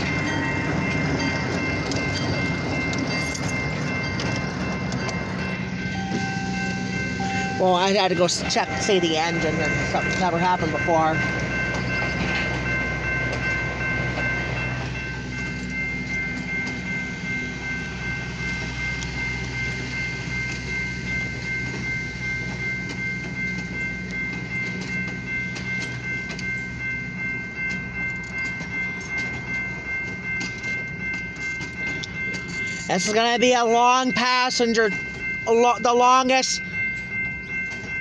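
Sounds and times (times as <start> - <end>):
high-pitched ringing tone: 0.0 - 38.0
train rolling rumble: 0.0 - 38.0.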